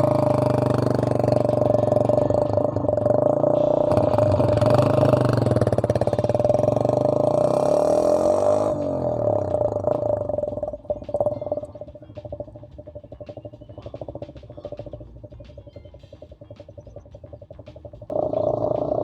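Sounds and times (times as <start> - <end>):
motorcycle engine with high whistling note: 0.0 - 19.0.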